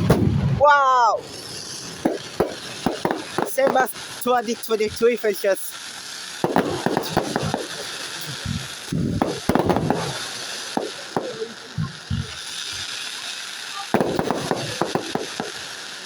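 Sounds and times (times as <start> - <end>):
fireworks bangs and crackles: 0.0 - 16.0
steady hiss: 0.0 - 16.0.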